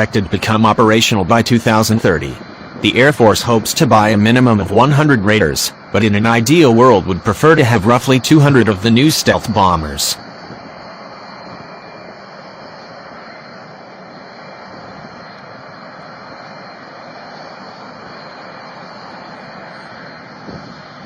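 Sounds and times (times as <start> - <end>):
aircraft engine rush: 0.0 - 21.0
faint high whine: 0.0 - 21.0.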